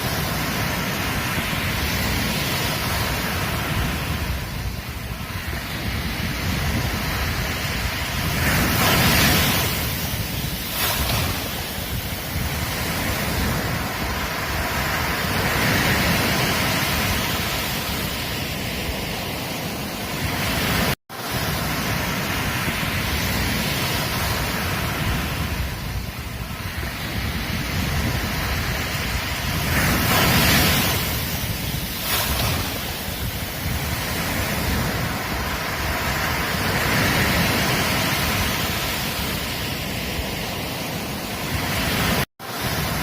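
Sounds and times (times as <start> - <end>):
ocean waves breaking on beach: 0.0 - 43.0.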